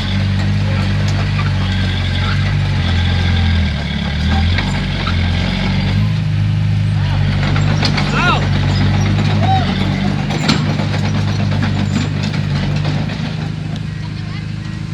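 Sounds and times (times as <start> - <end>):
heavy diesel engine running: 0.0 - 14.9.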